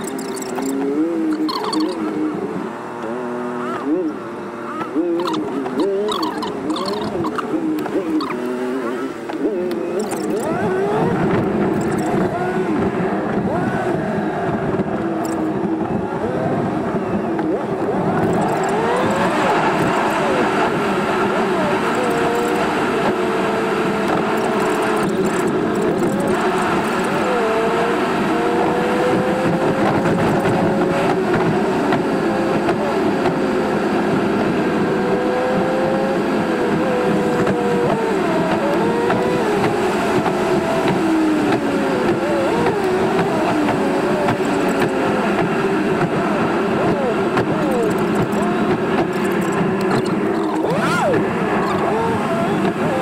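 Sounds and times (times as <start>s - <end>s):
car engine revving: 0.0s - 53.0s
road noise inside car: 0.0s - 53.0s.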